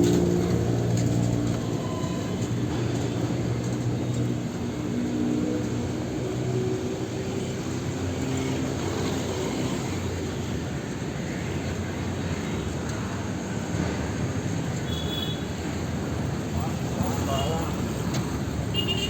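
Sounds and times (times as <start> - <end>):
traffic hum: 0.0 - 19.0
vehicle engines running: 0.0 - 19.0.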